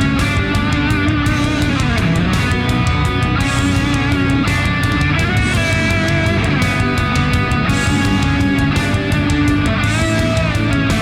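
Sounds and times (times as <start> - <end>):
heavy rock music with guitar: 0.0 - 11.0.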